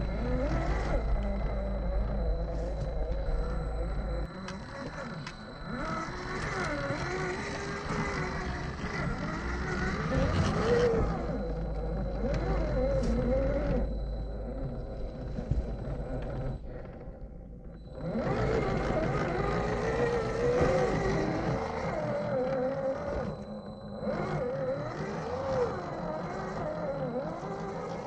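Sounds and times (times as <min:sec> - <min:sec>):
toy car electric motor whining: 0:00.0 - 0:28.0.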